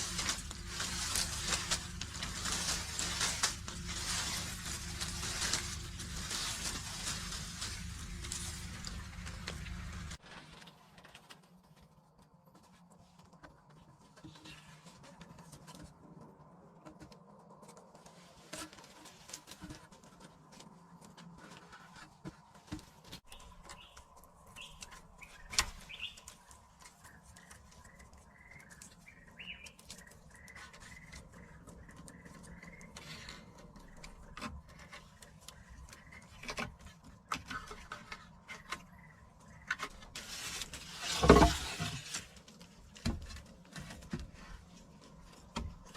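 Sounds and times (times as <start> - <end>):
faint birds chirping: 0.0 - 10.2, 12.1 - 45.9.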